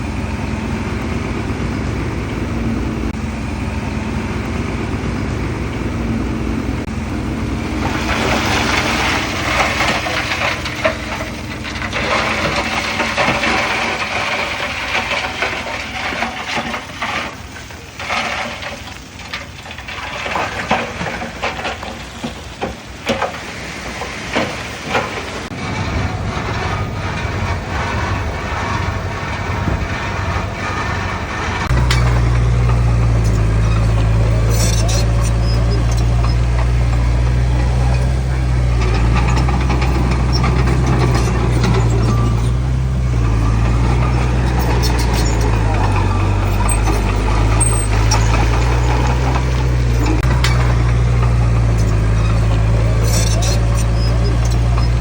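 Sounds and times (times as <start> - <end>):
diesel engine running: 0.0 - 55.0
rushing rattling noise with knocks: 6.8 - 55.0.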